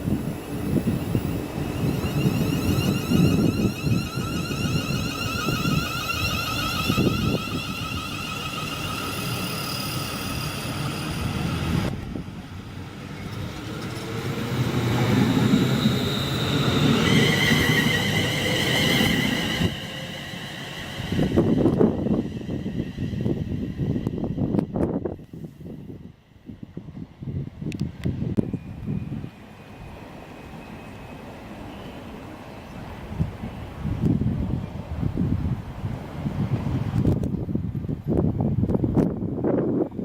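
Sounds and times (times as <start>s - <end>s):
train rumble: 0.0s - 40.0s
train whine: 0.0s - 40.0s.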